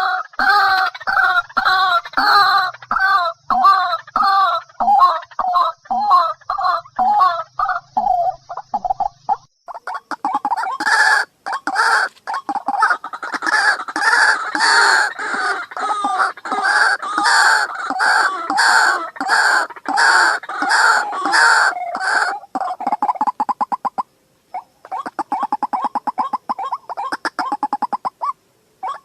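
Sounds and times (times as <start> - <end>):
bird calling harsh repeated notes: 0.0 - 29.0.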